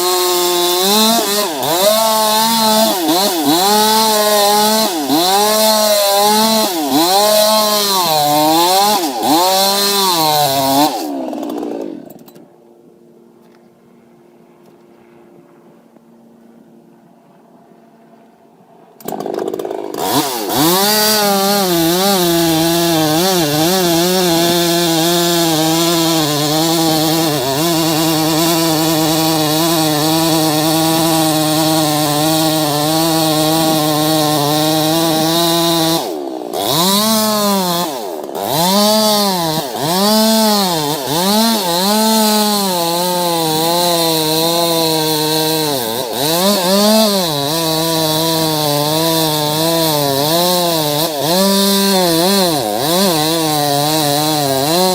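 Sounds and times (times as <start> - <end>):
chainsaw running at high revs: 0.0 - 12.4, 19.0 - 54.9.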